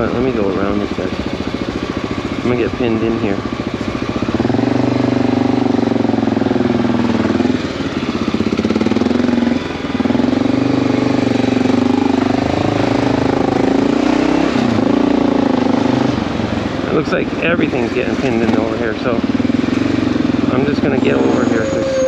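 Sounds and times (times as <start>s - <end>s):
motorcycle engine under throttle: 0.0s - 22.0s
road and wind noise: 0.0s - 22.0s.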